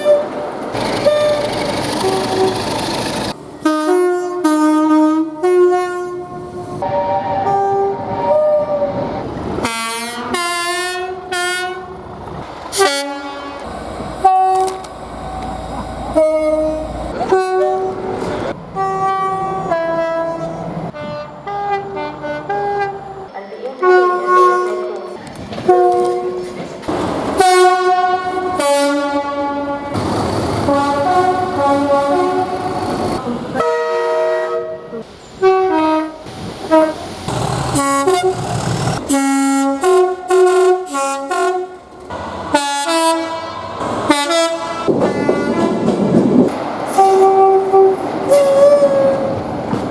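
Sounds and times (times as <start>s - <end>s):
two-tone train horn blasts: 0.0s - 2.7s, 3.6s - 12.0s, 12.7s - 24.9s, 25.6s - 26.6s, 27.4s - 49.4s.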